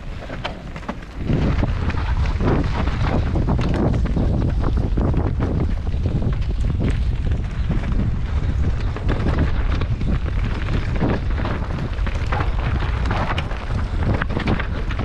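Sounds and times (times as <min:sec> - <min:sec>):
bike clattering over rocks: 0:00.0 - 0:15.0
wind buffeting microphone: 0:00.0 - 0:15.0.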